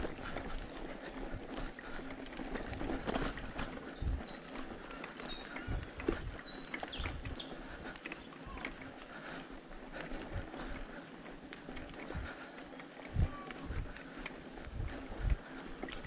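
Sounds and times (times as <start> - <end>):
bike knocking and rattling: 0.0 - 16.0.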